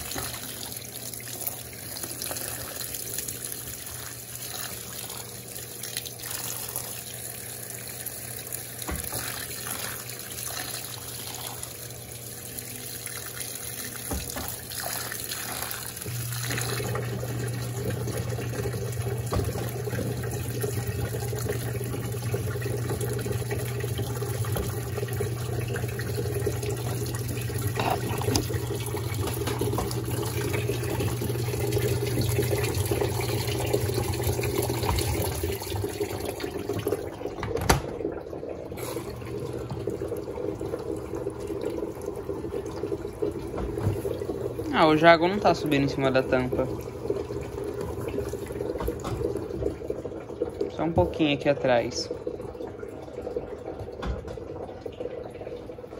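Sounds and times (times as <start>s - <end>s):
washing machine hum: 0.0s - 55.9s
water running into washing machine: 0.0s - 55.9s.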